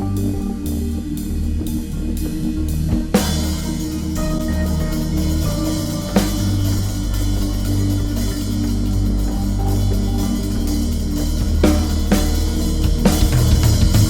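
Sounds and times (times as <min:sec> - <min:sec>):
drum and cymbal strikes: 0:00.0 - 0:14.0
low bass drone: 0:00.0 - 0:14.0
sustained pitched tones: 0:00.0 - 0:14.0.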